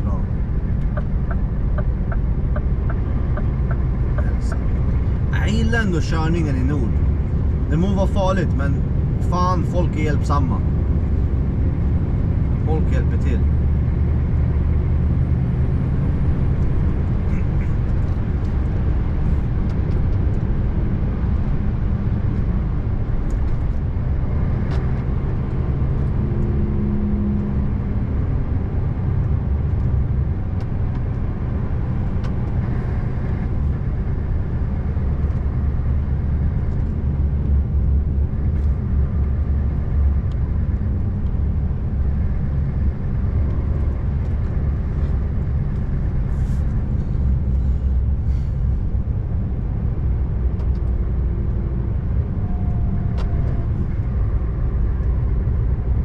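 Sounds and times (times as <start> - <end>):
road noise: 0.0 - 56.0
truck engine droning: 0.0 - 56.0.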